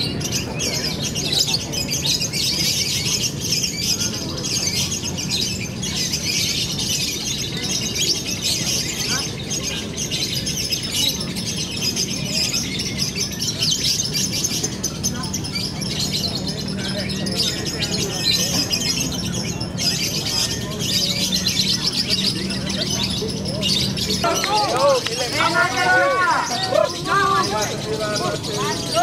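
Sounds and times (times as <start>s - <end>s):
lovebirds chirping and trilling: 0.0s - 29.0s.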